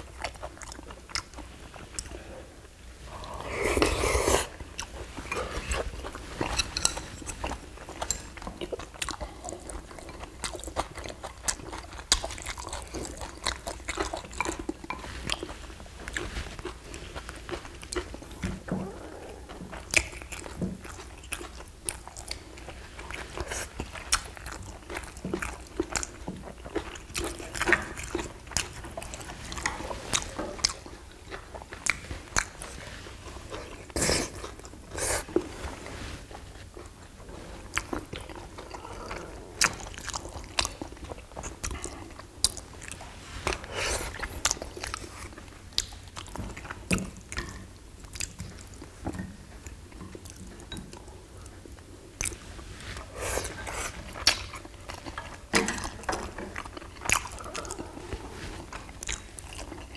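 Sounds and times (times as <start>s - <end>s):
chewing and mouth smacks: 0.0s - 2.2s, 3.8s - 35.5s, 37.6s - 52.4s, 53.0s - 59.9s.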